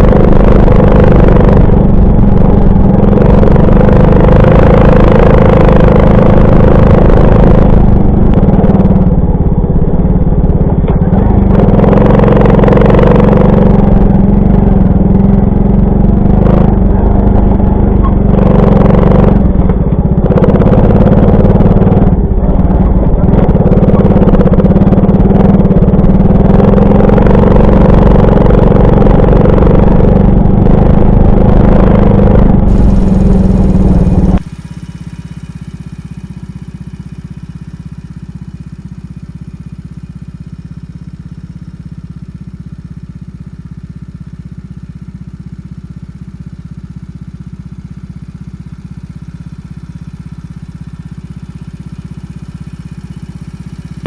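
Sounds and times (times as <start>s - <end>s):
moped engine running: 0.0s - 54.0s.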